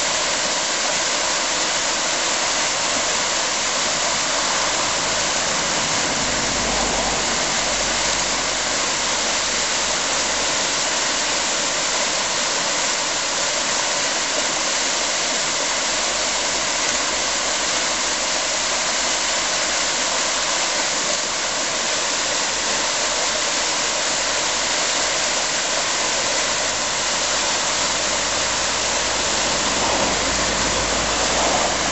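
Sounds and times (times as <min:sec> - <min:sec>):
whitewater rushing over rapid: 0:00.0 - 0:31.9.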